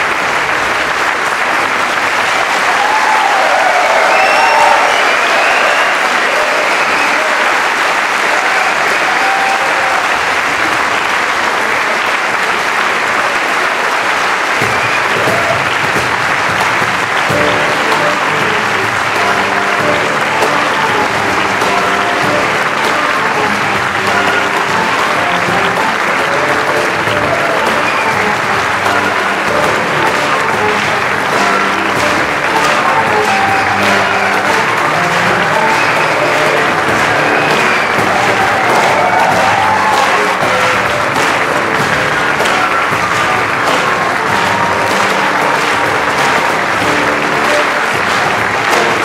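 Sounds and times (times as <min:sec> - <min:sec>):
audience applauding: 0:00.0 - 0:49.0
music: 0:00.0 - 0:49.0.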